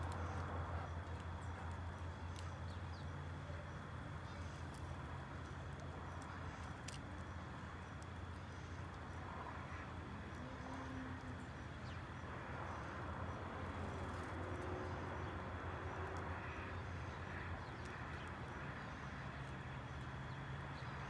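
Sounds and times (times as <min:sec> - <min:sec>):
birds pecking on concrete: 0:00.0 - 0:21.0
outdoor background rumble: 0:00.0 - 0:21.0.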